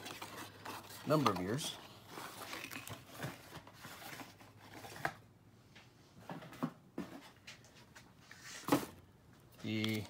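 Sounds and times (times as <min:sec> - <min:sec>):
clicks and rustles of handling: 0:00.0 - 0:05.2, 0:05.8 - 0:10.0.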